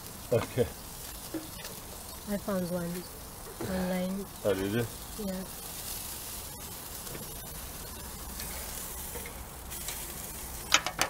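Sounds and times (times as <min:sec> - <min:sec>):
artichokes sizzling on a grill: 0:00.0 - 0:11.0.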